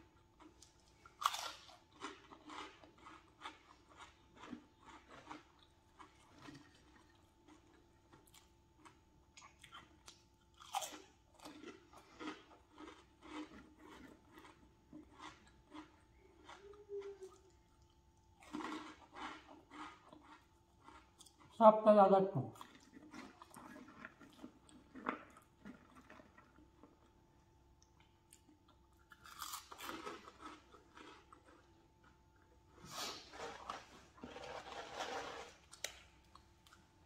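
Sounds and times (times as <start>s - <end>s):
chips being bitten and chewed: 0.0s - 21.6s, 22.6s - 27.2s, 27.9s - 32.3s, 33.2s - 36.8s.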